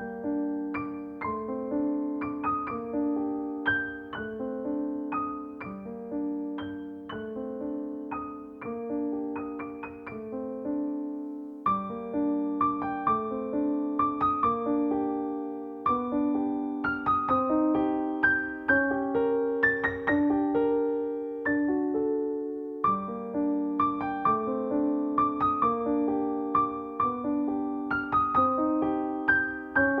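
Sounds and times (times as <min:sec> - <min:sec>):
piano piece: 0:00.0 - 0:30.0.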